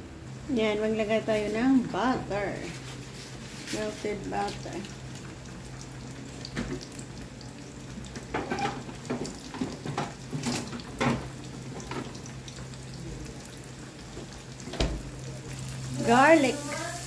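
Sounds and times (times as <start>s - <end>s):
butter sizzling in a frying pan: 0.4s - 17.0s.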